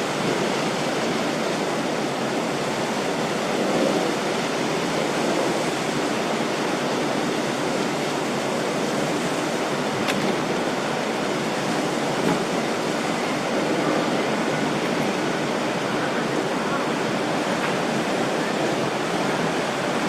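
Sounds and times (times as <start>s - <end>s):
rush of water and wind: 0.0s - 20.0s.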